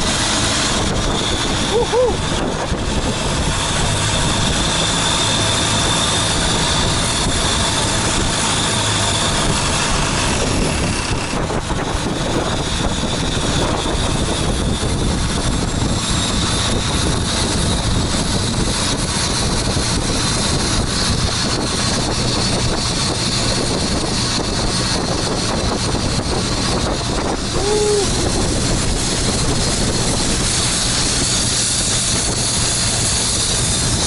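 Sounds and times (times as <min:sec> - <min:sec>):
motorboat engine running: 0:00.0 - 0:34.0
wind buffeting microphone: 0:00.0 - 0:34.0.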